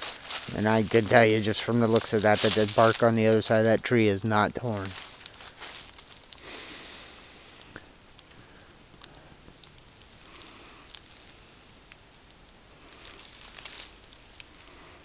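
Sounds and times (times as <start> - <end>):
rustling of dry leaves: 0.0 - 15.0.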